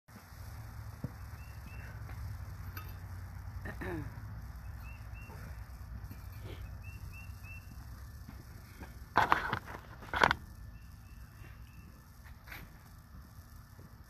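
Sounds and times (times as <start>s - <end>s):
low outdoor rumble: 0.1s - 14.0s
small bird chirping: 0.4s - 8.6s, 10.4s - 13.6s.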